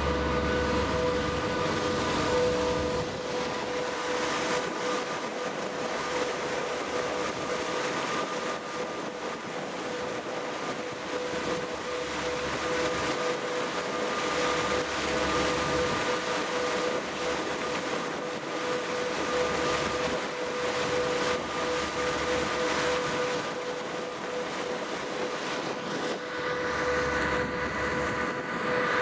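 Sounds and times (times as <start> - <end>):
ship machinery drone: 0.0 - 29.0
water rushing along hull: 0.0 - 29.0.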